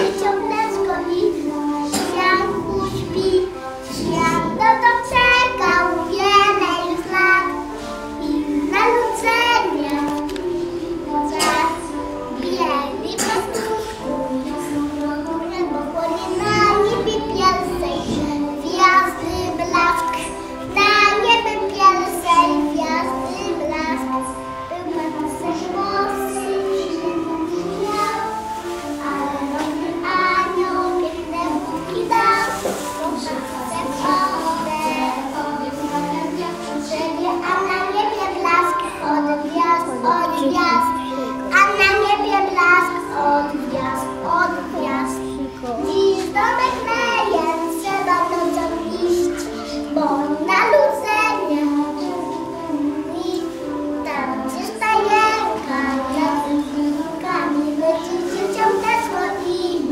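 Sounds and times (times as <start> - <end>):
boy singing a christmas carol: 0.0 - 59.9.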